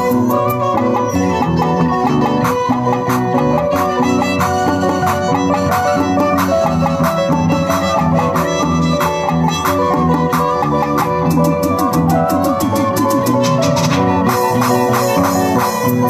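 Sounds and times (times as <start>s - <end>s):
electric bass: 0.0s - 16.0s
violin: 0.0s - 16.0s.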